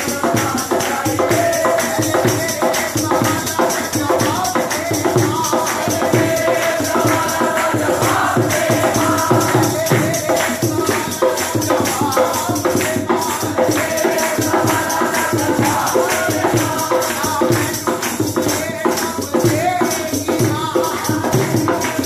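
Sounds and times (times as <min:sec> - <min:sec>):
jingling percussion: 0:00.0 - 0:22.0
man singing devotional song: 0:00.0 - 0:22.0.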